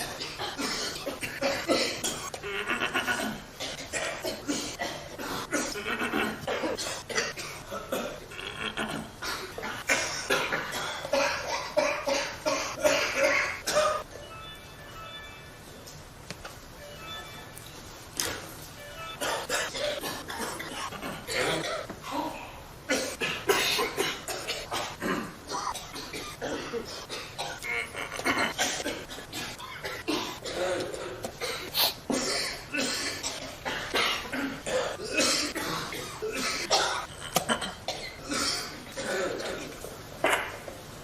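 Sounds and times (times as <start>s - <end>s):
people coughing: 0.0s - 14.2s, 18.2s - 40.8s.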